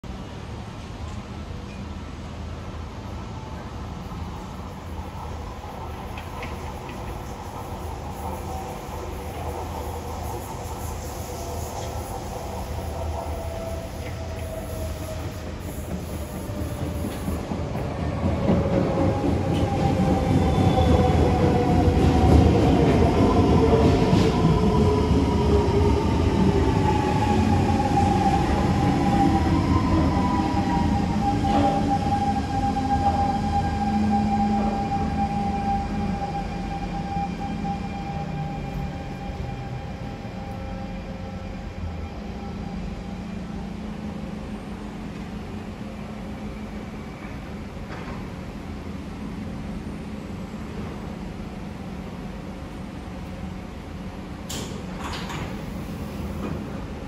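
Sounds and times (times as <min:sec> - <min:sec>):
wheels rumbling on rail: 0:00.1 - 0:57.0.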